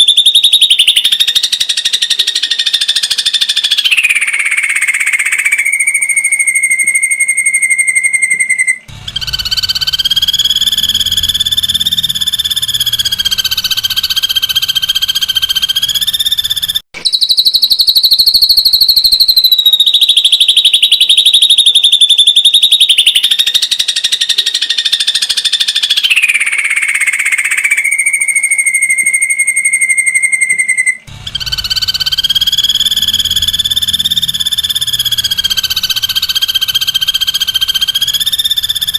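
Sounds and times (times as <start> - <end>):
bird buzzy trill calls: 0.0 - 38.9.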